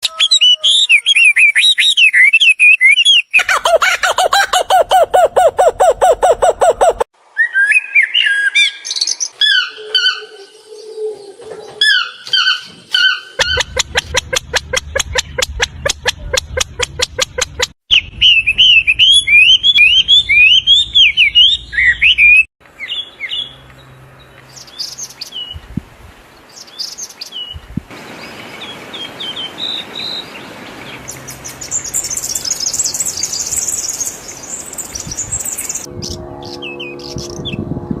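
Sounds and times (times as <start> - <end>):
birds chirping: 0.1 - 25.7, 26.3 - 37.6.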